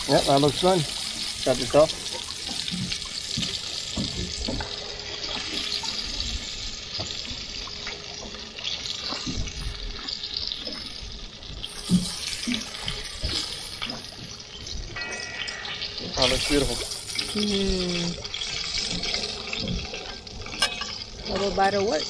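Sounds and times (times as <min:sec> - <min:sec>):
fish frying in hot oil: 0:00.0 - 0:22.0.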